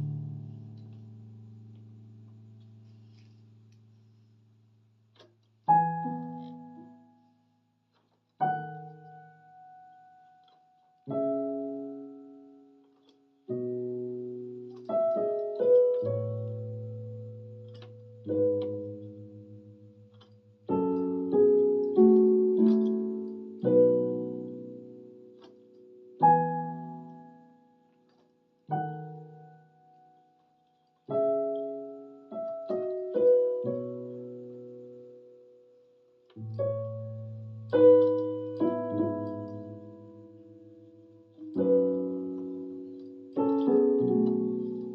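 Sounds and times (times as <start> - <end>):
slow piano chords: 0.0 - 4.4, 5.1 - 44.9.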